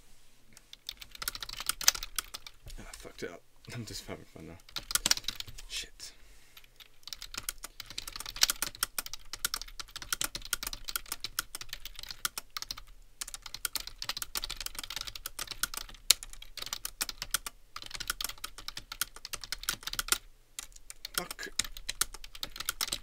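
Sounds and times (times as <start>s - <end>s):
fast typing on keyboard: 0.7s - 3.0s, 4.6s - 5.5s, 6.7s - 23.0s.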